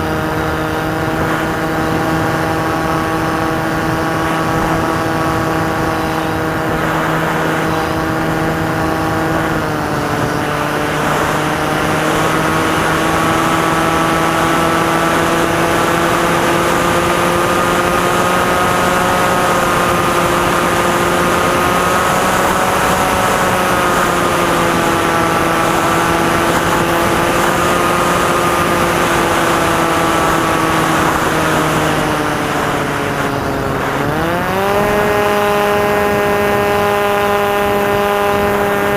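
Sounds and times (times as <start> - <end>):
model aircraft motor droning: 0.0 - 38.9.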